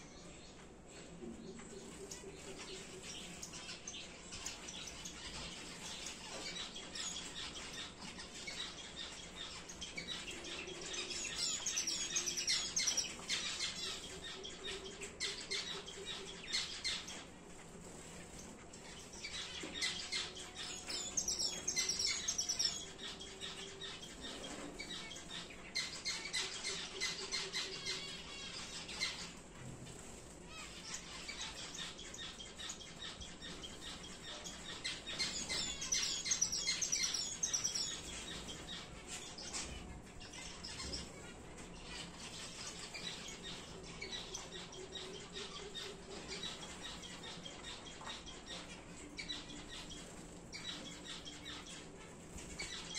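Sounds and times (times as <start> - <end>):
finches chirping and twittering: 0.0 - 52.9.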